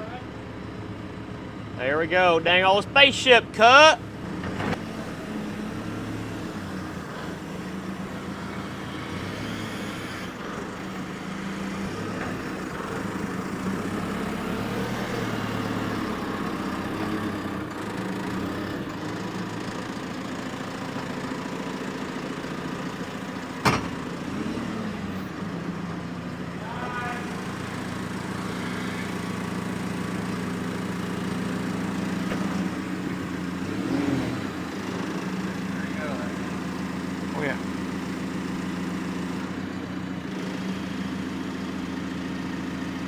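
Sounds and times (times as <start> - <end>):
machinery engine running: 0.0 - 43.0.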